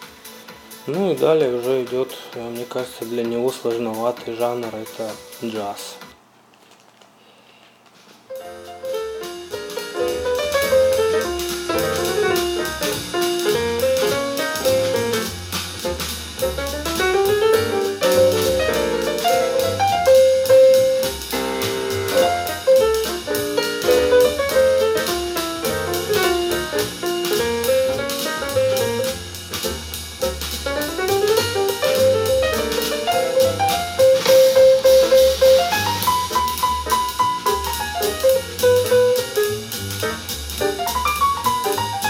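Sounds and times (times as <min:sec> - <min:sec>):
jazz through speakers: 0:08.1 - 0:42.0.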